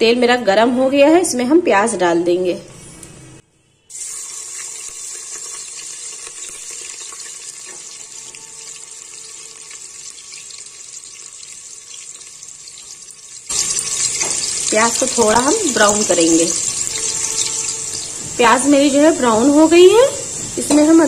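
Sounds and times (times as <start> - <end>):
onions sizzling in hot oil: 3.9 - 21.0.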